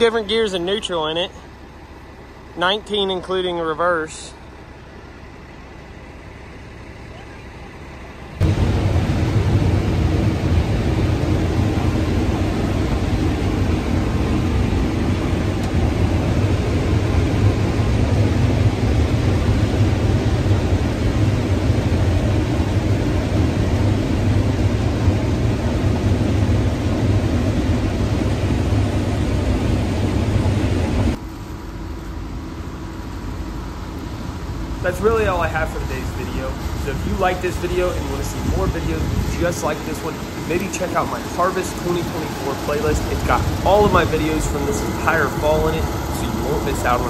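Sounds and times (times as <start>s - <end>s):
diesel truck engine rumbling: 0.0s - 47.0s.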